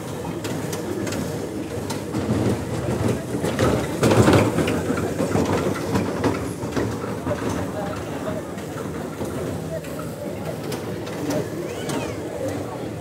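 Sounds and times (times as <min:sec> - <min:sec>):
ride cars rumbling on track: 0:00.0 - 0:13.0.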